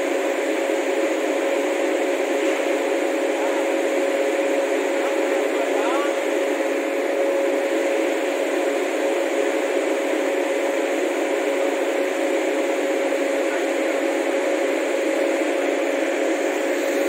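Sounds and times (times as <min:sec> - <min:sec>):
electric locomotive whirring hum: 0:00.0 - 0:17.0.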